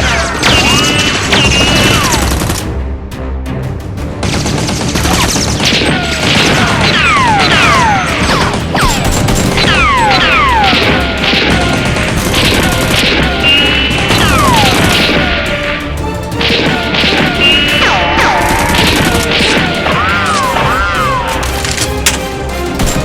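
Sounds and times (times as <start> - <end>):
action film music: 0.0 - 23.0.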